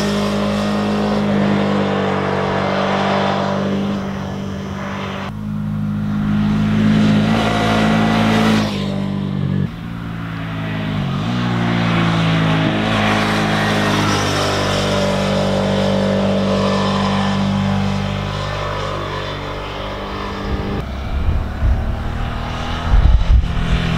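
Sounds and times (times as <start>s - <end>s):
motorcycle engine running: 3.8s - 23.9s.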